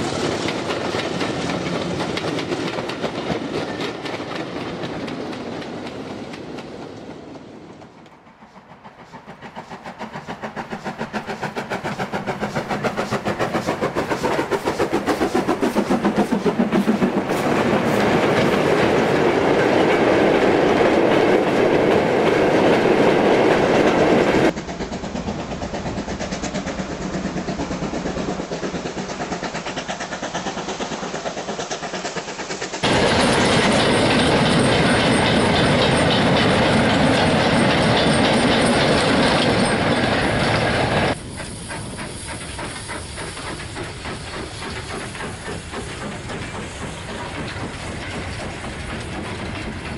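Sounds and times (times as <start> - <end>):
model train wheels clicking: 0.1 - 49.9.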